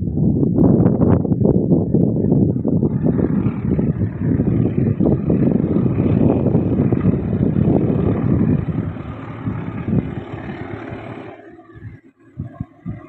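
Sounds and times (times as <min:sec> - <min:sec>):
wind on microphone: 0:00.0 - 0:13.0
distant locomotive rumble: 0:01.3 - 0:13.0.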